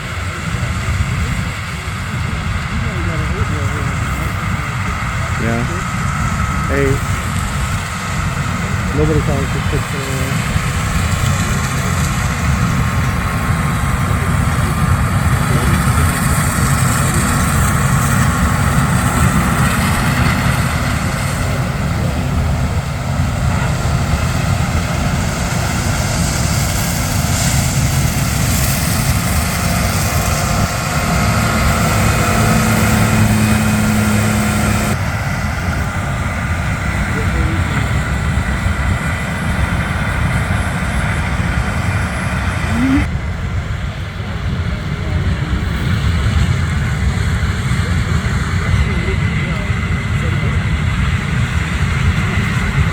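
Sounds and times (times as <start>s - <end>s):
diesel engines running: 0.0s - 52.9s
low hum: 0.0s - 52.9s.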